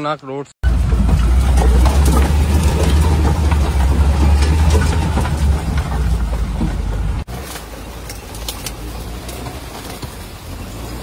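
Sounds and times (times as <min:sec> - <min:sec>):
car engine running: 0:00.6 - 0:11.0.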